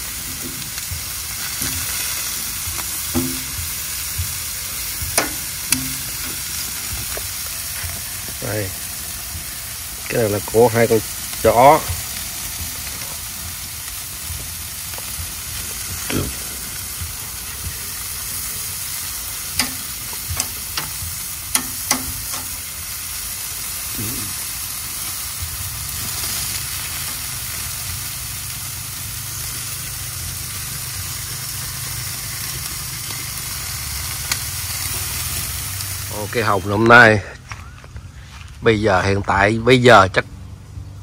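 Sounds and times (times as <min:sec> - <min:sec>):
chicken wings sizzling on grill: 0:00.0 - 0:37.4.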